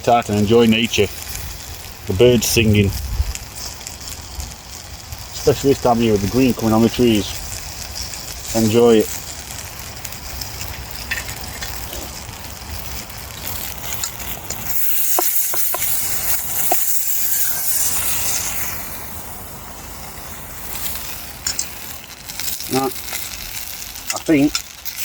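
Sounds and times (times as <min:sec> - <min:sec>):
steak sizzling in a pan: 0:00.1 - 0:25.0.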